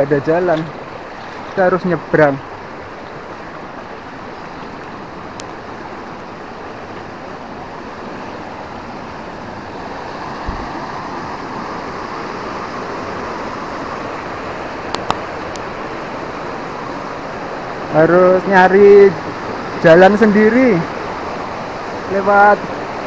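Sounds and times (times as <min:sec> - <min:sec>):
river water rushing over rocks: 0:00.0 - 0:23.0.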